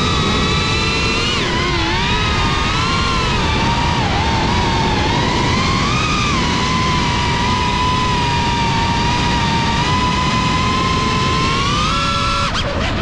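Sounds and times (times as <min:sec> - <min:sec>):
drone motors whining: 0:00.0 - 0:13.0
propeller and wind noise: 0:00.0 - 0:13.0.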